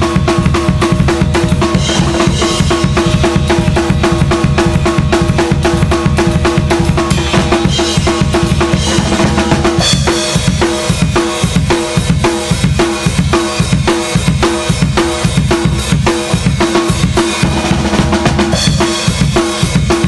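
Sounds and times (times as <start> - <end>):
bass drum: 0.0 - 20.0
cymbals: 0.0 - 20.0
ringing snare drum: 0.0 - 20.0.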